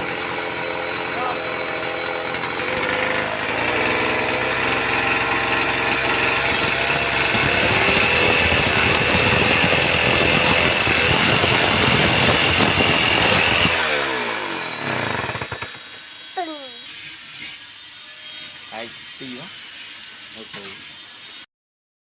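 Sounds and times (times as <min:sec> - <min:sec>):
wood lathe running: 0:00.0 - 0:21.0.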